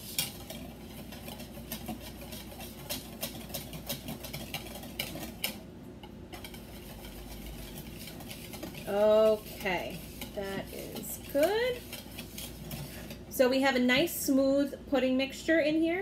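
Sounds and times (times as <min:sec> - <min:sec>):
whisk clicking against bowl: 0:00.0 - 0:13.2.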